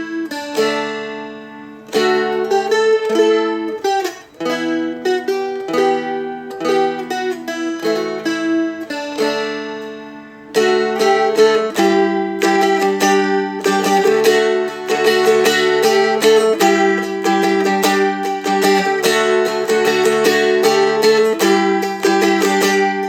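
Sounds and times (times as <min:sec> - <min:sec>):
dulcimer strummed and picked: 0:00.0 - 0:23.0.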